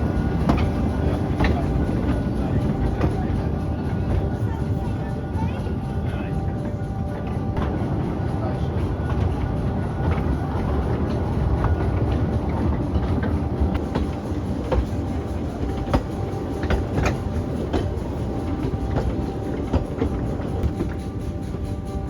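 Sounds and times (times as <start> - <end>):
railway carriage rumbling: 0.0 - 22.0
wheels clicking over rail joints: 0.0 - 22.0.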